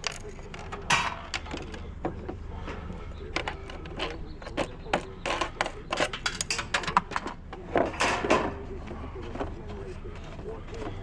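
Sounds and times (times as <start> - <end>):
scrap metal knocks and clatters: 0.0 - 11.0.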